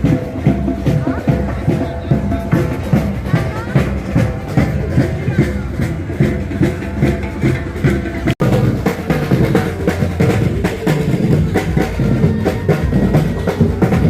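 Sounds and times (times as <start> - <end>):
music with steady drum beat: 0.0 - 14.0.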